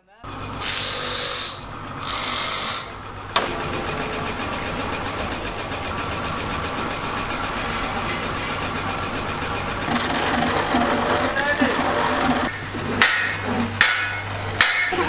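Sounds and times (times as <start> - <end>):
rotary tool grinding rubber: 0.4 - 12.6.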